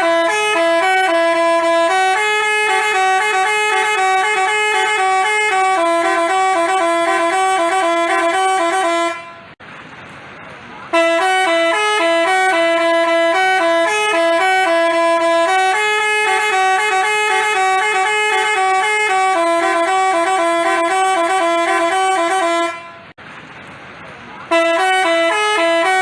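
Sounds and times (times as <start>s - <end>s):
bus horn playing a tune: 0.0s - 9.6s, 10.9s - 23.2s, 24.5s - 26.0s.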